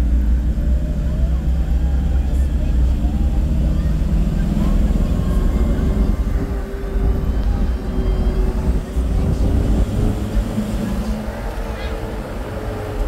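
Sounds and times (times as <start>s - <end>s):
engine and road noise rumble: 0.0s - 13.0s.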